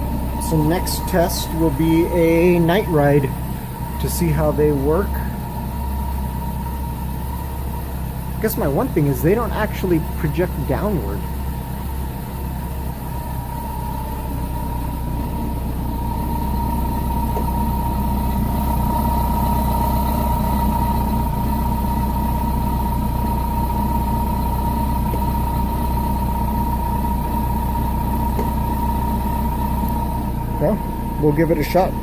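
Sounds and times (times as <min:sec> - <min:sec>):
motorcycle engine idling: 0:00.0 - 0:32.0
steady whine: 0:00.0 - 0:32.0.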